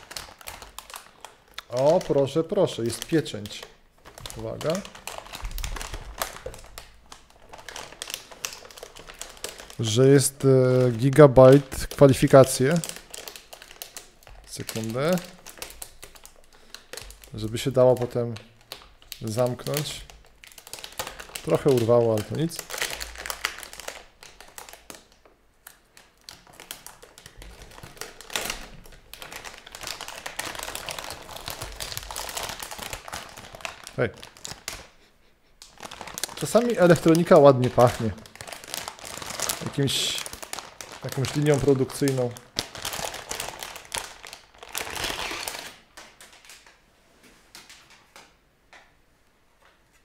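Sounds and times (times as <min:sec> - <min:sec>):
plastic wrapping crinkling: 0:00.0 - 0:48.4.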